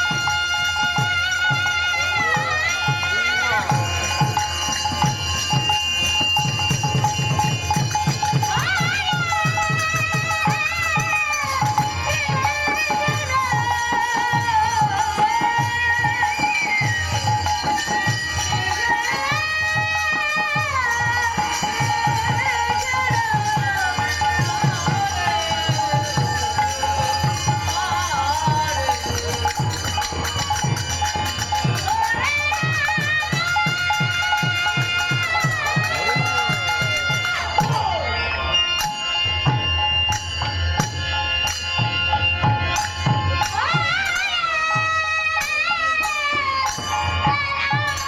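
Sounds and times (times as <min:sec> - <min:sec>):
fast hand-drum beats: 0:00.0 - 0:41.0
small cymbals jingling: 0:00.0 - 0:48.0.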